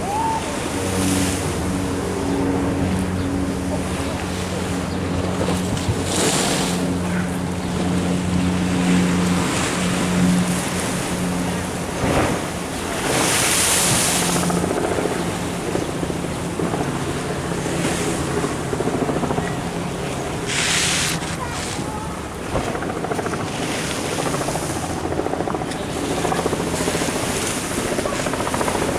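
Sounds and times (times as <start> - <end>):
waves washing against sea wall: 0.0 - 28.9.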